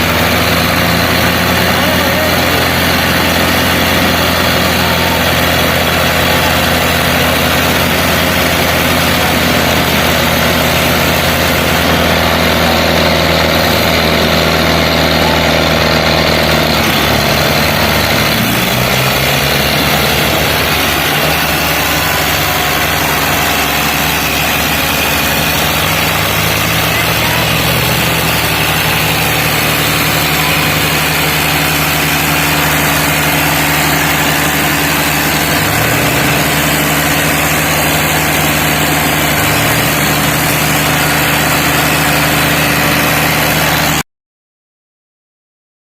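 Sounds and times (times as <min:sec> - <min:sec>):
tractor engines running hard: 0:00.0 - 0:44.0.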